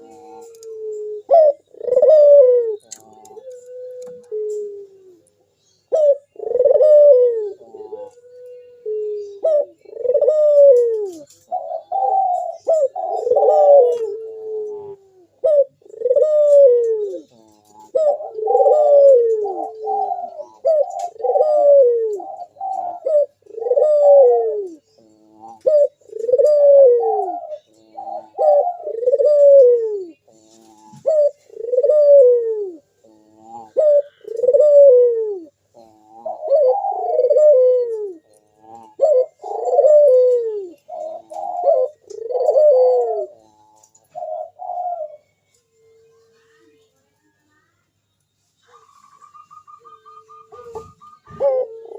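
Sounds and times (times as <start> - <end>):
dove cooing: 0.0 - 47.4, 48.6 - 51.9.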